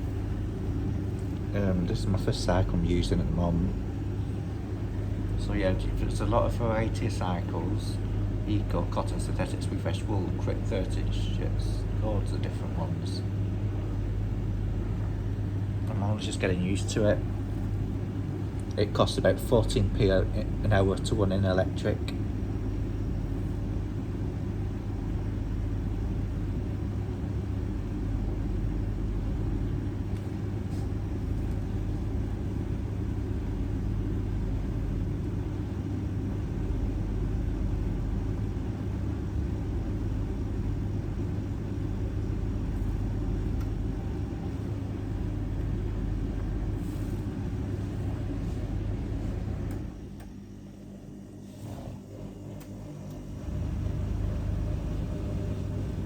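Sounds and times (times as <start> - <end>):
tumble dryer humming: 0.0 - 56.0.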